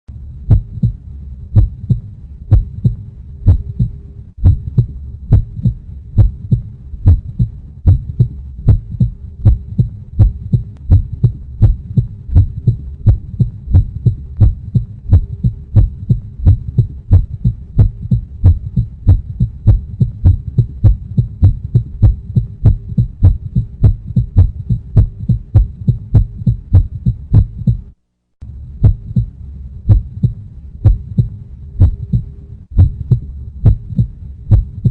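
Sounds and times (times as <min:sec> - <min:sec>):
continuous low hum: 0:00.1 - 0:34.9
heartbeat thumps: 0:00.1 - 0:34.9.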